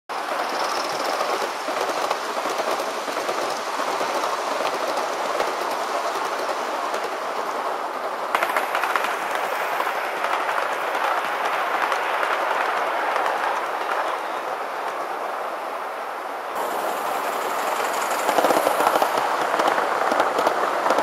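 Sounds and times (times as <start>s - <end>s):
model train wheels rattling: 0.2s - 13.9s, 16.6s - 21.0s.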